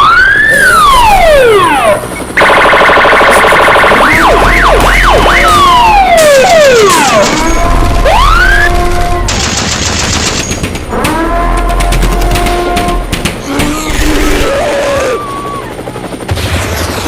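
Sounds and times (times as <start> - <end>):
emergency sirens wailing: 0.0 - 9.4, 10.8 - 16.2.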